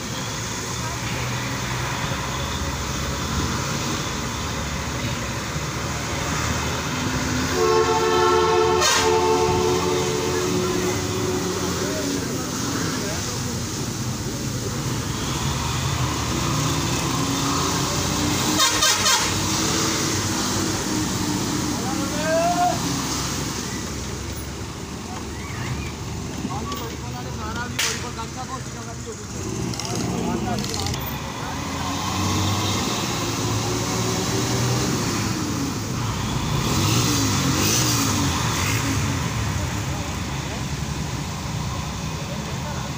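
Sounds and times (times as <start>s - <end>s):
bus engine running: 0.0s - 42.9s
road noise: 0.0s - 42.9s.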